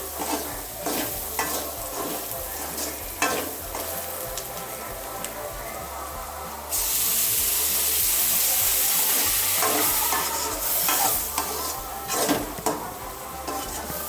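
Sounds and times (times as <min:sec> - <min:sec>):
spatula scraping a pan: 0:00.0 - 0:05.5, 0:06.7 - 0:14.0
food sizzling in hot oil: 0:00.0 - 0:14.0.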